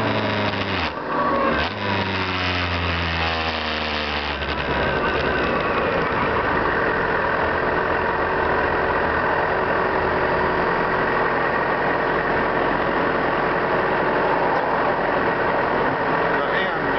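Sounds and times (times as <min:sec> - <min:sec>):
car engine running: 0:00.0 - 0:16.9
road noise: 0:00.0 - 0:16.9.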